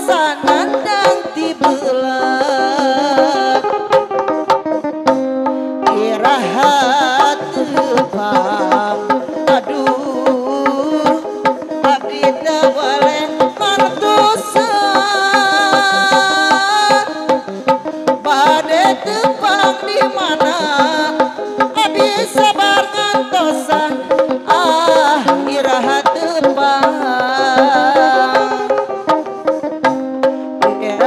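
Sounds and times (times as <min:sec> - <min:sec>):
fast hand drum rhythm: 0:00.0 - 0:31.0.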